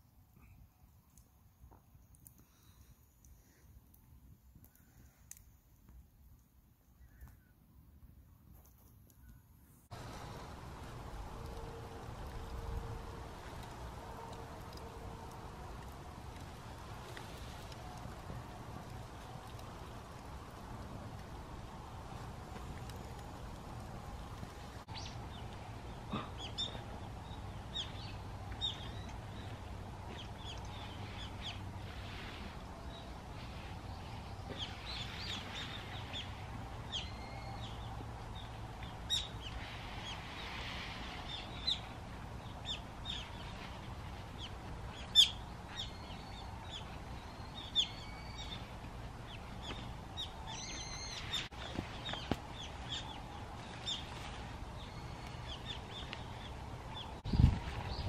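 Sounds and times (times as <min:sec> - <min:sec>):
faint outdoor background: 0:00.0 - 0:58.0
small birds chirping: 0:09.1 - 0:58.0.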